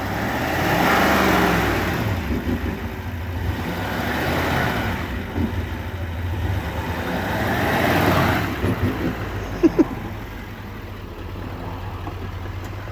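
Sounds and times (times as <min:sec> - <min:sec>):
diesel engine revving: 0:00.0 - 0:12.9
engine idling: 0:00.0 - 0:12.9.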